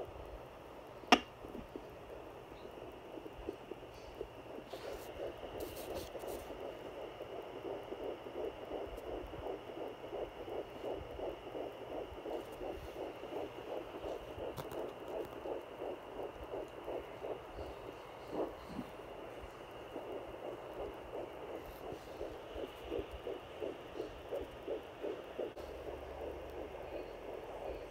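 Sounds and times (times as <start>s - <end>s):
fetal heartbeat through doppler: 0.0s - 27.9s.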